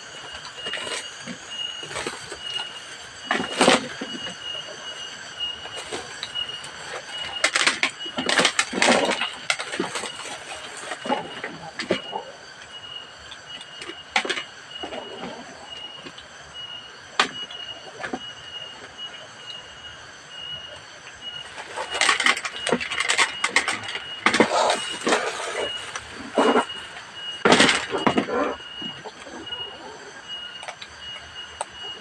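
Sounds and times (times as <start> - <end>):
high pulsing chirp: 0.0 - 32.0.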